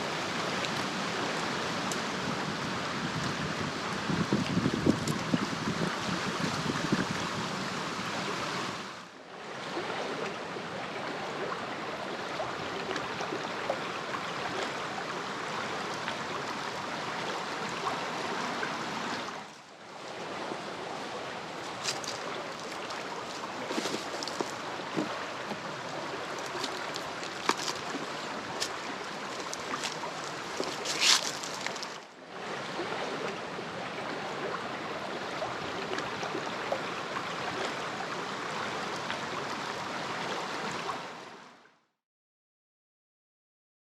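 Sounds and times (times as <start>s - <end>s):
creek rushing over rapids: 0.0s - 41.5s.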